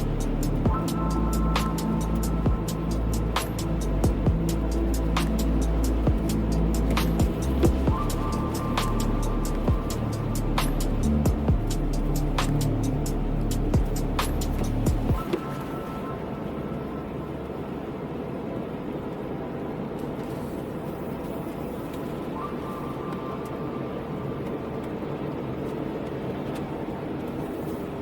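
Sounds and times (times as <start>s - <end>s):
car road noise on wet road: 0.0s - 28.0s
faint steady whine: 0.0s - 28.0s.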